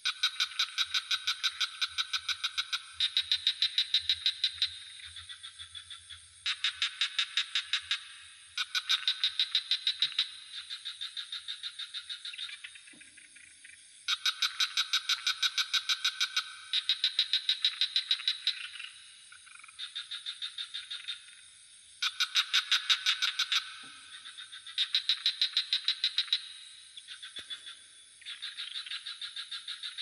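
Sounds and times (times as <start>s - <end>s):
crickets trilling: 0.0s - 30.0s
frogs calling in pulsed trills: 0.0s - 30.0s.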